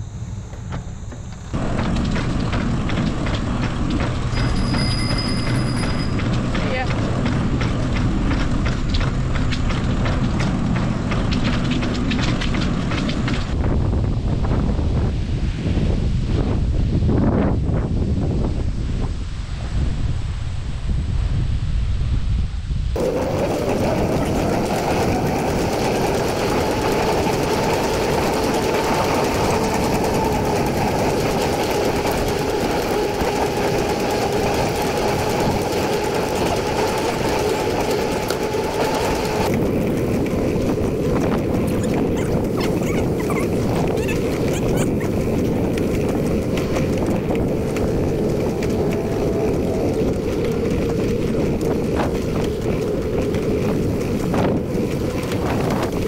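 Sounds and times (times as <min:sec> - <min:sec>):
bicycle tyre hum: 0:00.0 - 0:56.0
wind on microphone: 0:00.7 - 0:56.0.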